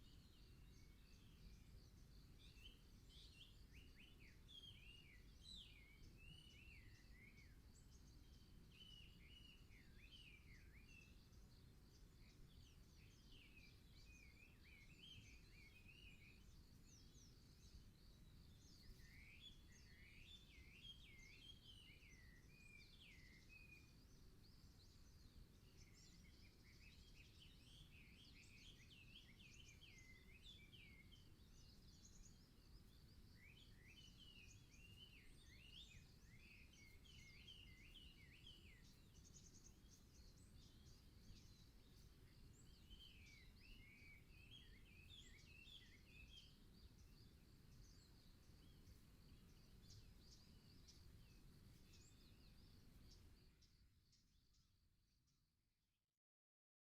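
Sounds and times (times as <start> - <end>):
songbirds warbling: 0.0 - 54.3.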